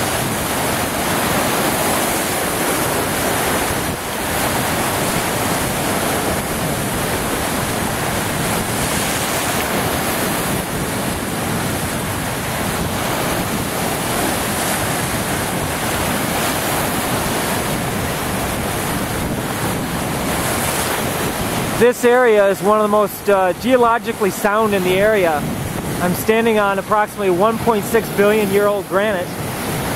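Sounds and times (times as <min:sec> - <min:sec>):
wind buffeting microphone: 0:00.0 - 0:21.8, 0:23.6 - 0:26.8, 0:29.2 - 0:29.9
waves breaking on rocky shore: 0:00.0 - 0:29.9.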